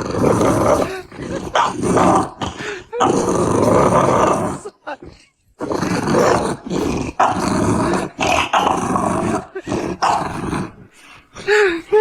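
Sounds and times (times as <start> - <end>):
dog growling: 0.0 - 12.0.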